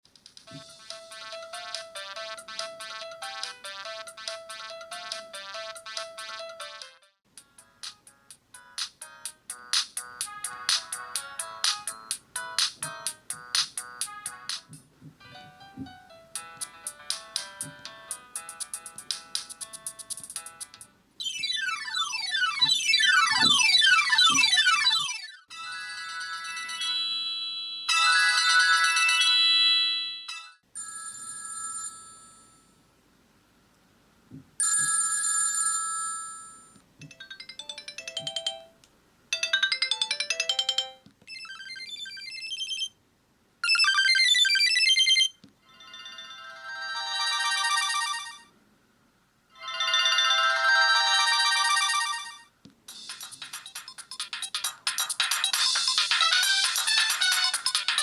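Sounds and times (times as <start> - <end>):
polyphonic ringtone melodies: 0.5 - 6.7, 8.5 - 32.7, 34.6 - 43.0, 43.6 - 48.5, 49.5 - 58.0.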